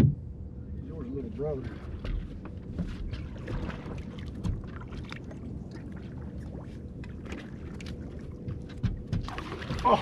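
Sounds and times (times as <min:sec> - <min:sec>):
boat low rumble: 0:00.0 - 0:10.0
faint steady hum: 0:00.0 - 0:10.0.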